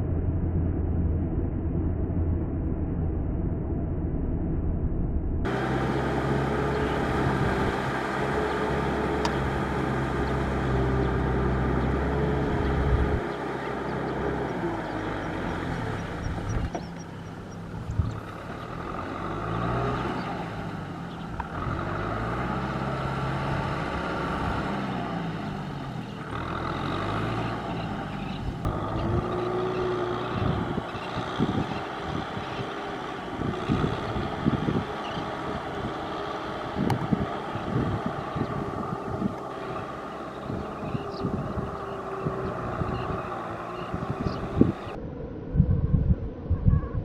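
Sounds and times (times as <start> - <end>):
tractor engine under load: 5.5 - 45.0.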